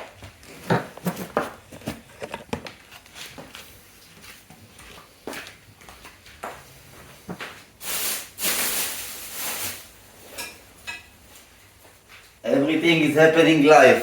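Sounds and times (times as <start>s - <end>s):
rustling or scraping: 0.2s - 5.2s, 6.1s - 12.4s.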